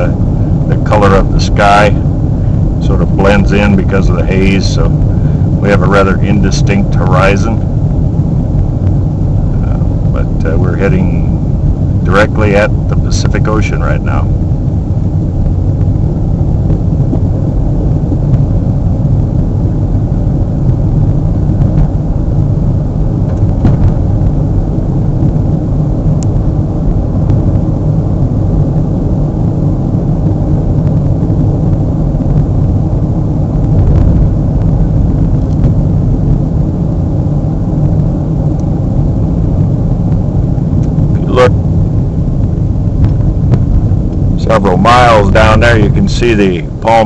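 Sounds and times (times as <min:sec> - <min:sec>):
car interior road noise: 0:00.0 - 0:47.0.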